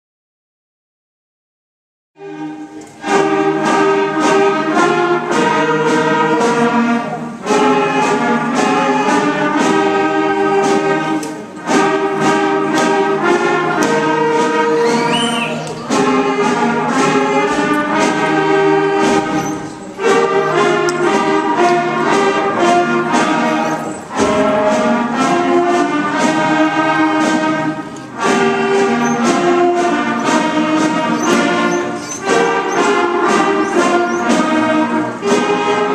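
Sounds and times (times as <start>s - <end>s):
concert band playing: 2.2s - 35.9s.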